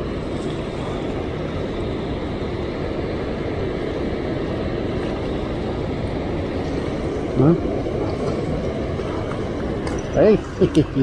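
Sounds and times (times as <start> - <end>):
churning water rushing: 0.0 - 11.0.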